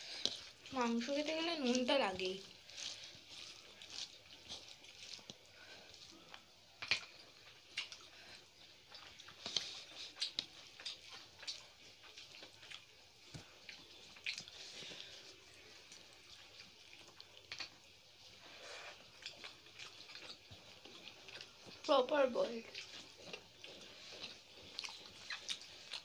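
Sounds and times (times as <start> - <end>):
fingers squishing rice: 0.0 - 26.0
wet chewing and lip smacks: 0.0 - 26.0.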